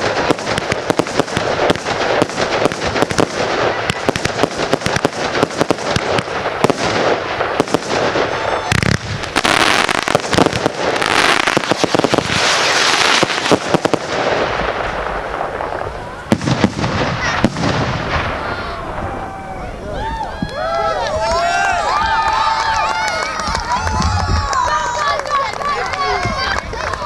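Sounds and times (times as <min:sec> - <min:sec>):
firework crackling hiss: 0:00.0 - 0:27.0
firework cracks and bangs: 0:00.0 - 0:27.0.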